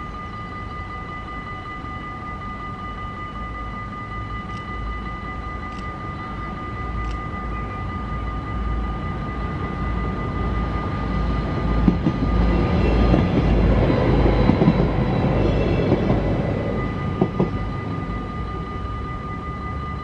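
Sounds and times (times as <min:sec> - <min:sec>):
crossing warning bells ringing: 0:00.0 - 0:20.0
diesel train passing: 0:00.0 - 0:20.0.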